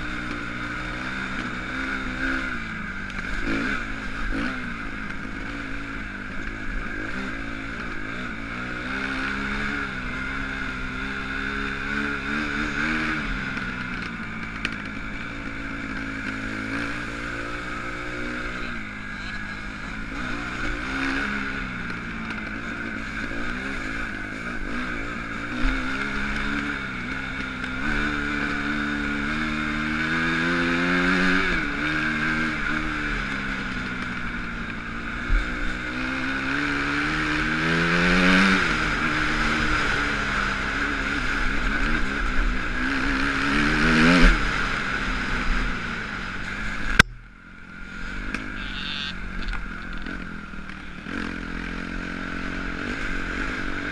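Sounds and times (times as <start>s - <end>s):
motocross bike engine revving: 0.0s - 53.9s.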